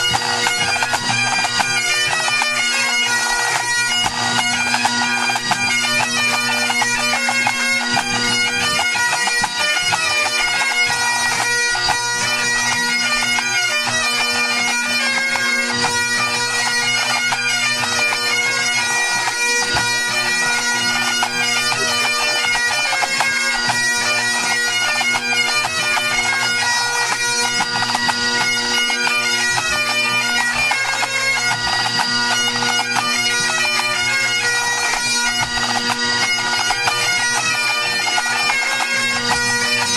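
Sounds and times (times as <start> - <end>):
bagpipe chanters playing melody: 0.0 - 39.9
bagpipe drones: 0.0 - 39.9.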